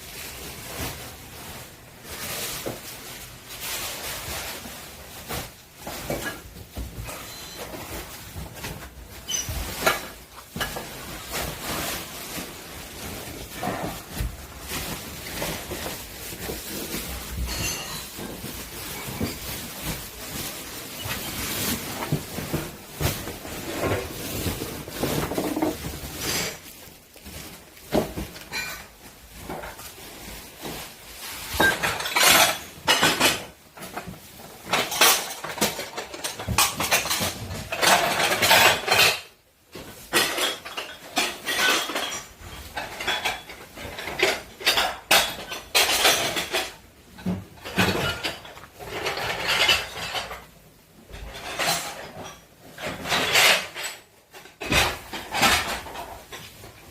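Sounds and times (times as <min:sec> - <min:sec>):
dishes and cutlery clattering: 0:04.3 - 0:26.8, 0:27.4 - 0:29.8, 0:30.6 - 0:56.9.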